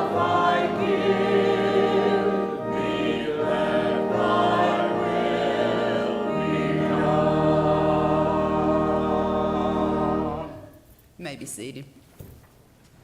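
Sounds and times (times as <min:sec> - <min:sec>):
congregation singing a hymn: 0:00.0 - 0:10.8.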